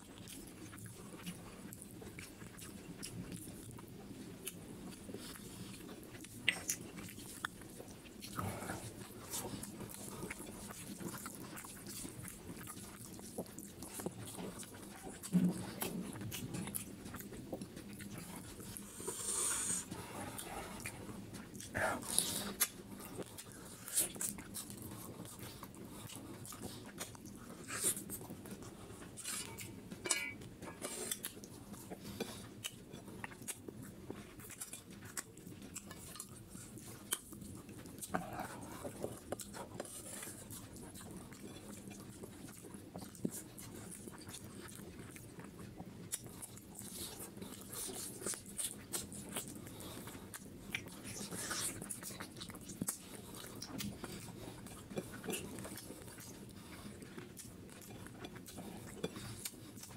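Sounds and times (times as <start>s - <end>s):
wet chewing and lip smacking: 0.0s - 59.9s.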